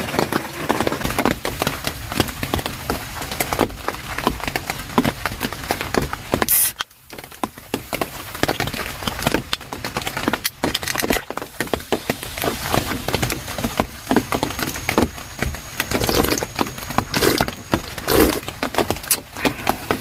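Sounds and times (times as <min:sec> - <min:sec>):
heavy rain drumming on a tent: 0:00.0 - 0:20.0.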